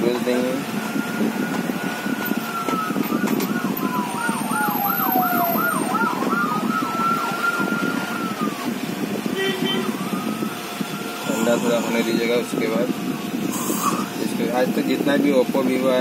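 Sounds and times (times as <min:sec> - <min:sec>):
emergency vehicle siren wailing: 0:00.0 - 0:14.3.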